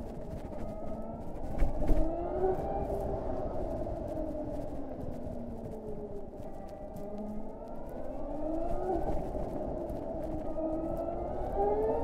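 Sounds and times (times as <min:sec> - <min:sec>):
wind noise: 0:00.0 - 0:12.0.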